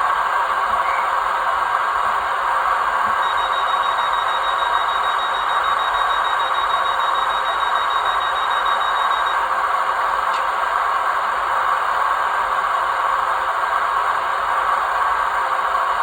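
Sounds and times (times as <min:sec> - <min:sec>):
model train running on track: 0:00.0 - 0:16.0
model train rushing drone: 0:00.0 - 0:16.0
thin high whine: 0:00.0 - 0:16.0.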